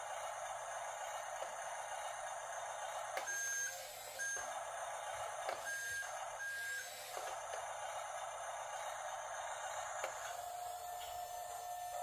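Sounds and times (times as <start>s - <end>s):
toy bulldozer motor and gear whir: 0.0s - 12.0s.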